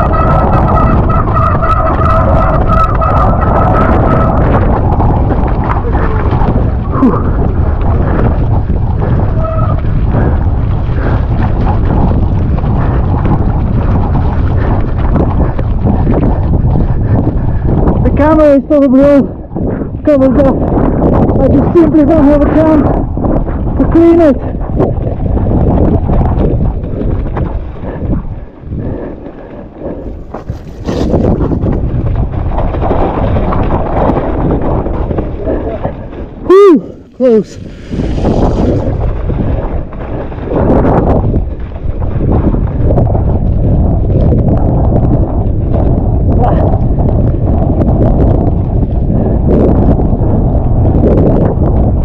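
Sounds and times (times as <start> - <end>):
bike rattling over rough ground: 0.0 - 52.0
wind buffeting microphone: 0.0 - 52.0.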